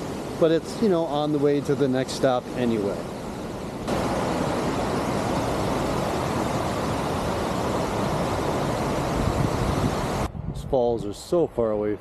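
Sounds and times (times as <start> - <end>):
waterfall rushing: 0.0 - 10.3.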